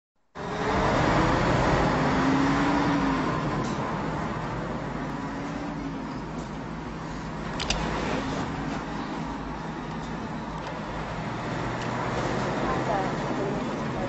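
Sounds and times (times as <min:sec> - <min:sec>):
car road and engine noise: 0:00.3 - 0:14.0.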